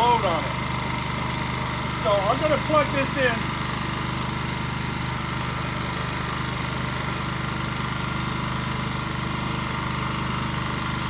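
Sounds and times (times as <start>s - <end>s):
generator idling: 0.0s - 11.0s.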